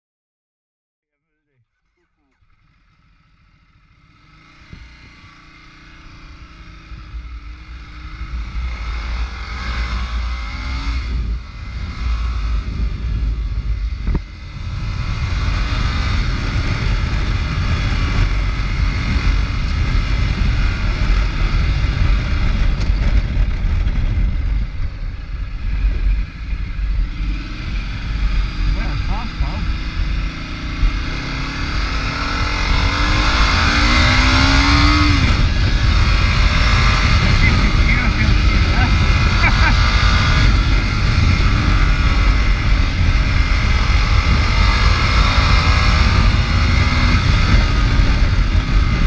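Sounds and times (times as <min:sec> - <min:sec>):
motorcycle engine running: 0:01.7 - 0:49.0
wind rush on microphone: 0:06.2 - 0:49.0.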